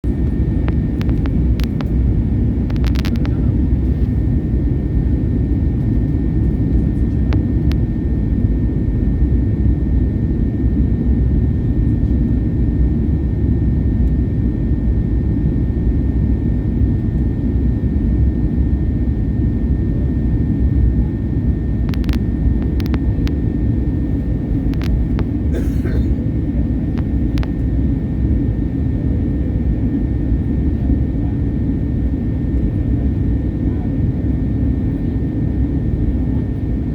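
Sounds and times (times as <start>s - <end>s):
airliner cabin drone: 0.0s - 36.9s.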